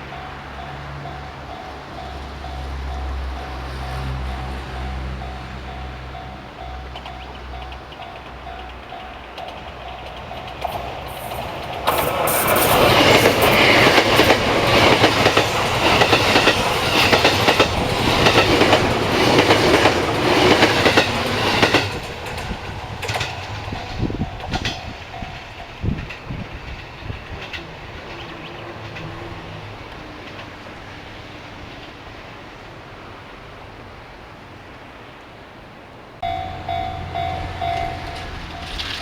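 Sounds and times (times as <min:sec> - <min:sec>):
train wheels clacking on rails: 0:00.0 - 0:32.1, 0:36.2 - 0:39.0.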